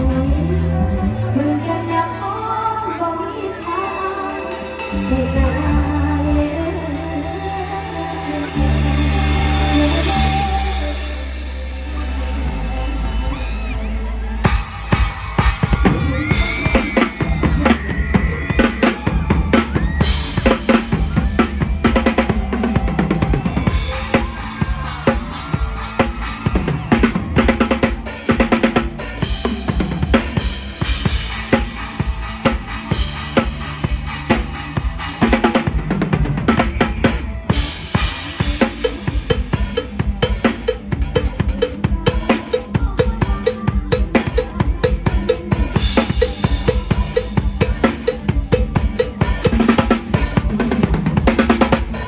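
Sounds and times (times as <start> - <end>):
drum kit beat: 6.4 - 13.2, 14.4 - 52.0
band instruments playing: 6.4 - 52.0.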